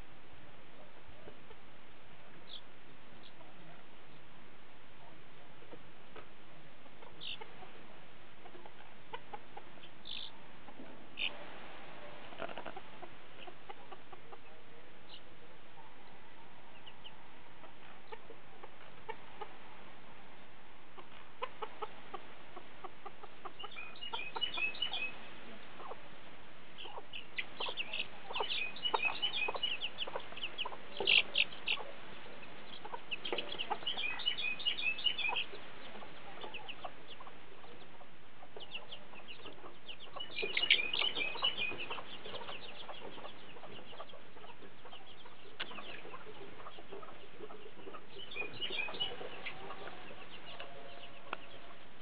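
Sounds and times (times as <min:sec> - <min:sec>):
chickens peeping and clucking: 0:00.0 - 0:52.0.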